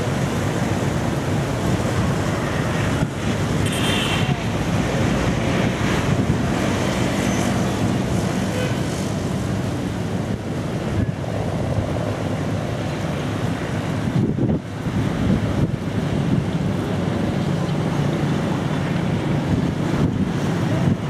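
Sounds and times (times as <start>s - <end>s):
street traffic: 0.0s - 21.0s
wind buffeting microphone: 0.0s - 21.0s.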